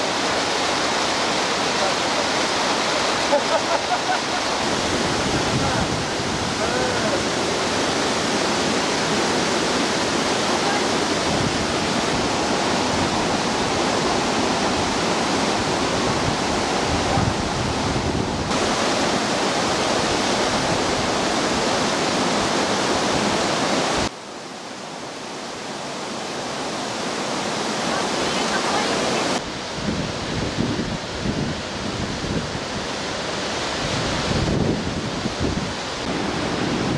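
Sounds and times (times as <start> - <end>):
waterfall rushing: 0.0 - 36.9.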